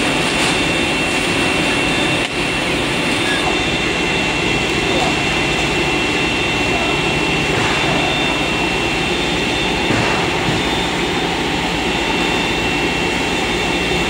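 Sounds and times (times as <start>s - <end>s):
constant high whine: 0.0s - 14.0s
machinery din and blowing air: 0.0s - 14.0s.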